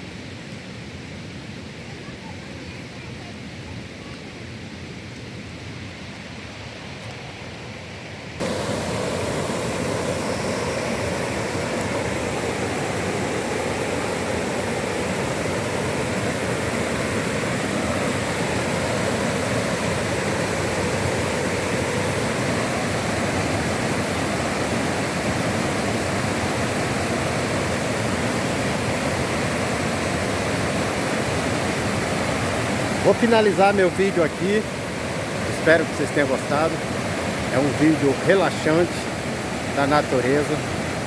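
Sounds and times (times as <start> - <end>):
flowing water rushing: 7.9 - 41.0.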